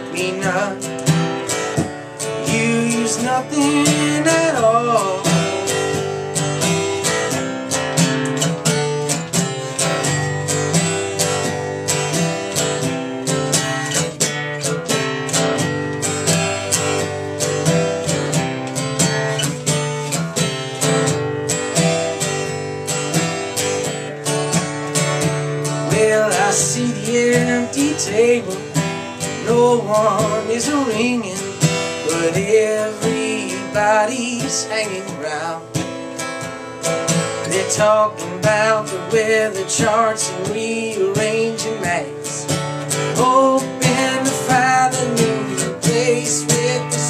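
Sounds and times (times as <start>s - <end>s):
acoustic guitar strumming chords: 0.0s - 47.0s.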